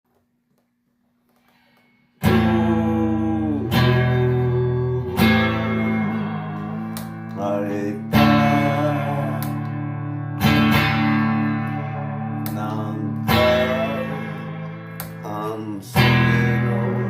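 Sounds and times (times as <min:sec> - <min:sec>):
guitar strummed chords: 0:02.2 - 0:17.0.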